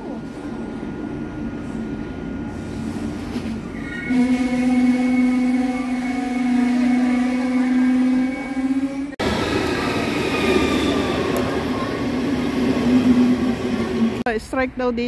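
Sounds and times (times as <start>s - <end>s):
busy railway platform noise: 0.0s - 15.0s
train pitched hum: 0.0s - 15.0s.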